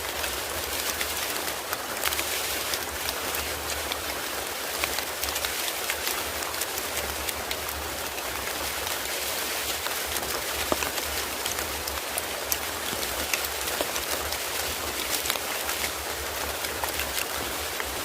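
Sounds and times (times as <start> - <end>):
raindrops ticking: 0.0 - 18.0
steady rain: 0.0 - 18.0.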